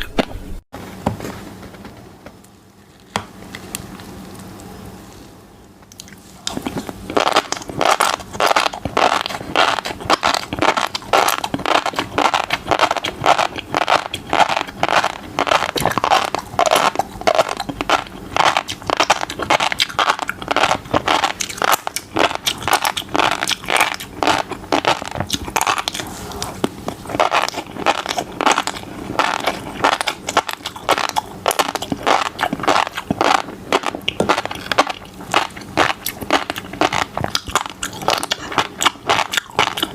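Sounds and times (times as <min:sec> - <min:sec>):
chewing crunchy fish roe: 0:02.8 - 0:39.9.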